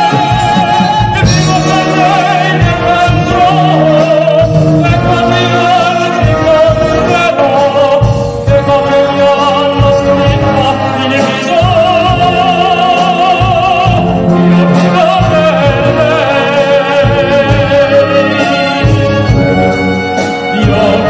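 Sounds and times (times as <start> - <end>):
solo singer with vibrato: 0.0 - 18.8, 20.4 - 21.0
wind band playing: 0.0 - 21.0.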